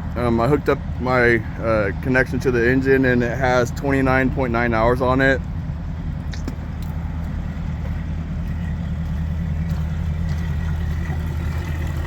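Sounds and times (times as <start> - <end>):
outboard engine idling: 0.0 - 12.0.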